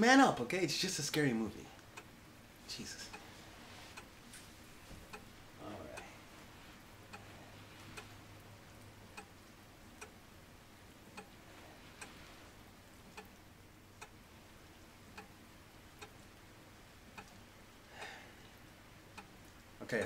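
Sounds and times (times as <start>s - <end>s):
clock ticking: 1.7s - 3.3s, 3.9s - 4.2s, 4.9s - 20.0s.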